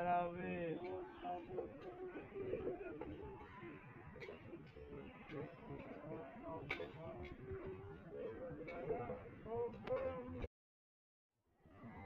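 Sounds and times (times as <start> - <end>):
background voices: 0.0 - 10.5
street noise: 0.0 - 10.5.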